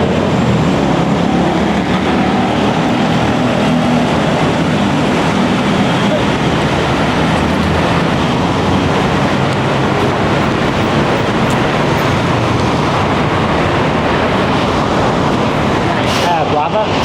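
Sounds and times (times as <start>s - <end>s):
vehicles passing on busy street: 0.0s - 17.0s.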